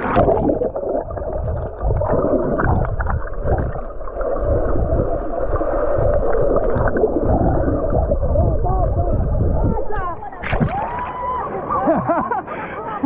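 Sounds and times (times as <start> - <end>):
low rumbling buffeting: 0.0 - 11.7
rough sea water sloshing: 0.0 - 12.6.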